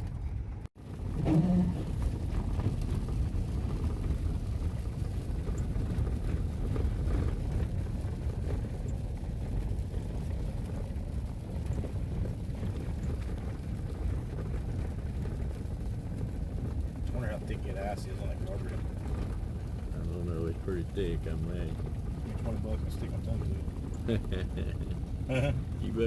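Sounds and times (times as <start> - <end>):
road and engine rumble in vehicle: 0.0 - 26.0.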